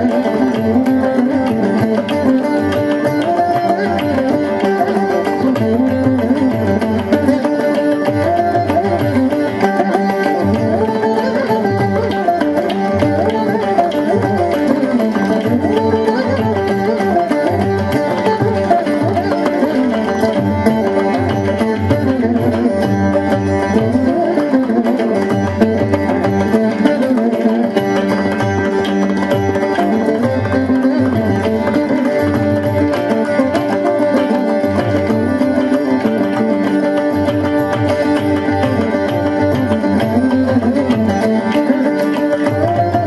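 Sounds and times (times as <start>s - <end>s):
hand drum accompaniment: 0.0s - 43.0s
plucked veena melody: 0.0s - 43.0s.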